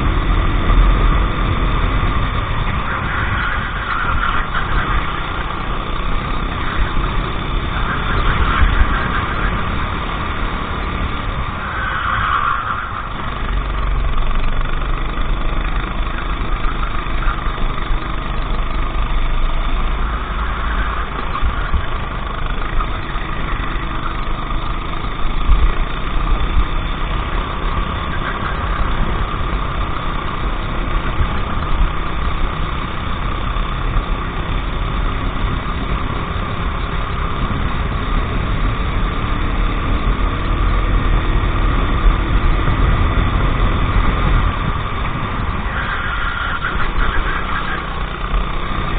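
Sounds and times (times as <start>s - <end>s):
go-kart engine running: 0.0s - 48.9s
wind rumble: 0.0s - 48.9s.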